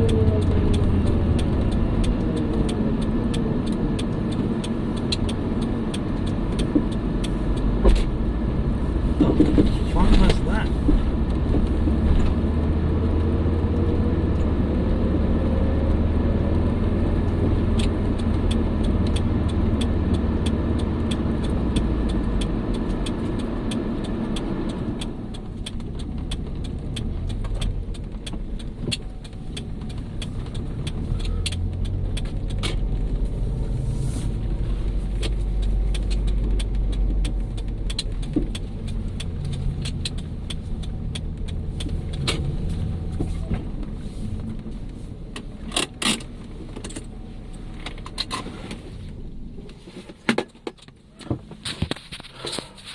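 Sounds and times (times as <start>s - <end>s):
car driving drone: 0.0s - 50.1s
road noise: 0.0s - 52.9s.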